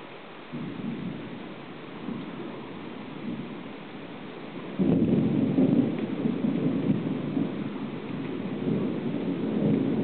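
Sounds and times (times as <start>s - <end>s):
rain hiss: 0.0s - 10.0s
thunder rumbling: 0.5s - 10.0s.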